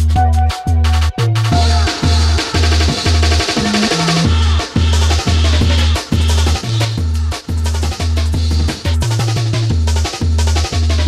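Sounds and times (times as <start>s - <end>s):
bass-heavy dance music: 0.0s - 11.0s.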